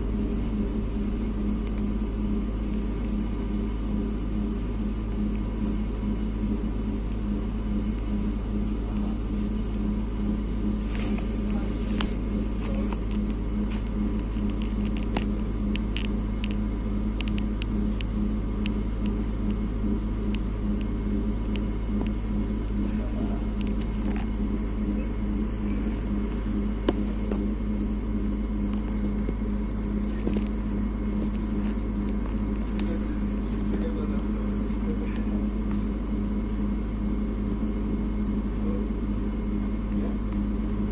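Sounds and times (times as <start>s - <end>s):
electric train running hum: 0.0s - 40.9s.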